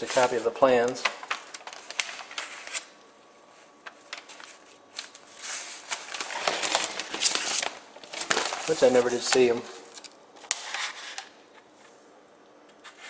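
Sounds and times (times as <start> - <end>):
paper rustling and crinkling: 0.0 - 2.9, 3.5 - 12.0.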